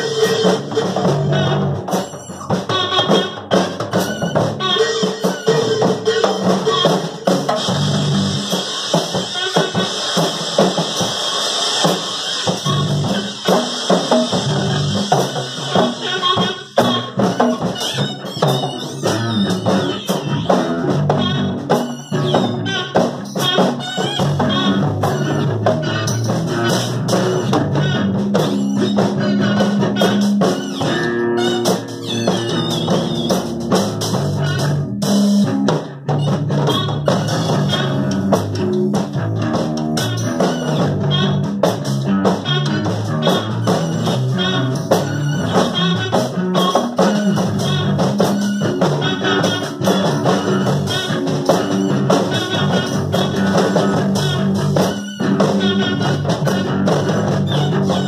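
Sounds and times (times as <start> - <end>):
bass guitar line: 0.0 - 8.5, 12.5 - 58.0
drum kits with cymbals: 0.0 - 58.0.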